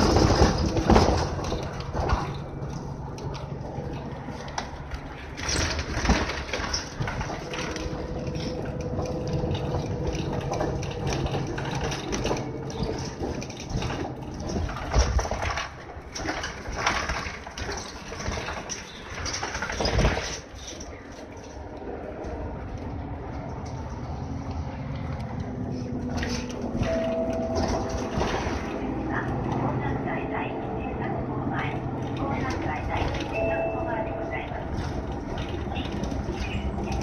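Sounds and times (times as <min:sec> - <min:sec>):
body rattles: 0:00.0 - 0:21.7, 0:25.0 - 0:29.6, 0:31.9 - 0:37.0
bus bumps: 0:00.0 - 0:37.0
bus drivetrain hum: 0:00.0 - 0:37.0
road noise: 0:00.0 - 0:37.0.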